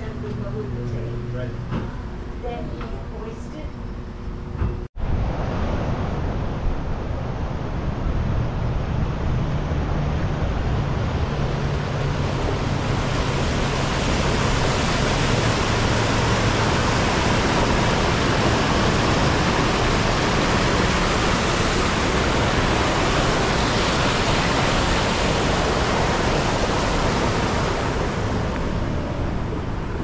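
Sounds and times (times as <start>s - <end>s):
rush of falling water: 5.1s - 30.0s.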